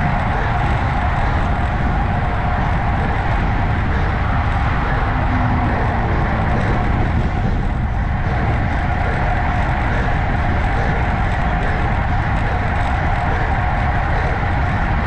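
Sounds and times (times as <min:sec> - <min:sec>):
bike tyre road noise: 0:00.0 - 0:15.0
wind buffeting microphone: 0:00.0 - 0:15.0.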